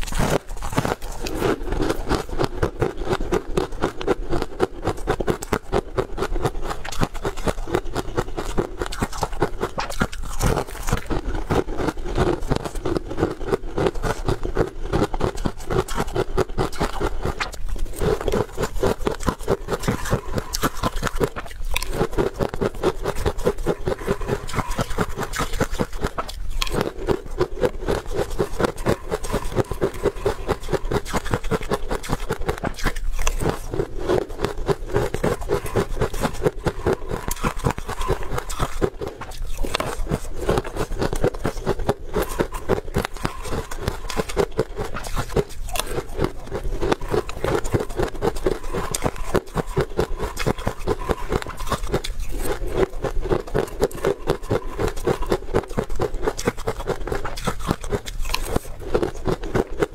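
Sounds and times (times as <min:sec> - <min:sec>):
chewing crunchy crisp: 0:00.0 - 0:59.9.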